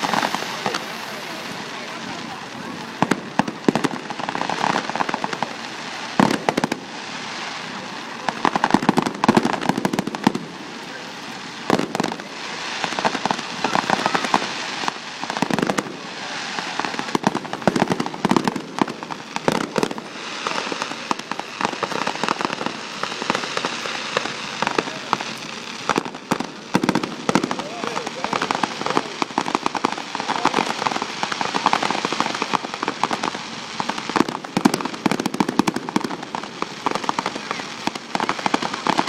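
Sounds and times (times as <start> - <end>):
fireworks bangs: 0.0 - 39.0
rapid crackling: 0.0 - 39.0
rumble of explosions: 0.0 - 39.0.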